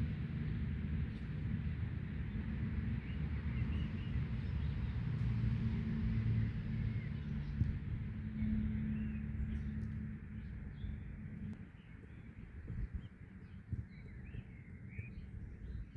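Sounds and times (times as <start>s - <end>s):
low rumble and hum: 0.0s - 15.9s.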